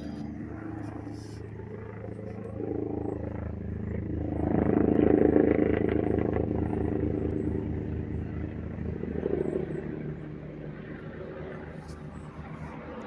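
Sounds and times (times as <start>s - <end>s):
engine running with pulsing note: 0.0s - 13.0s.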